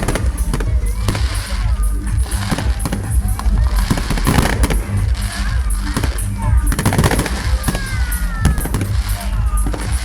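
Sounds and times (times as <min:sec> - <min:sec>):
fireworks banging and crackling: 0:00.0 - 0:10.0
music with heavy bass: 0:00.0 - 0:10.0.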